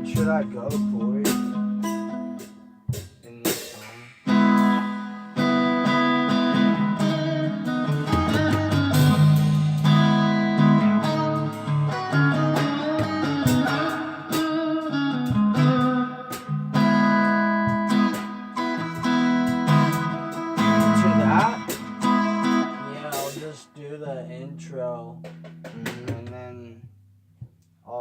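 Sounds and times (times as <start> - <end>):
guitar strumming chords: 0.0 - 26.7.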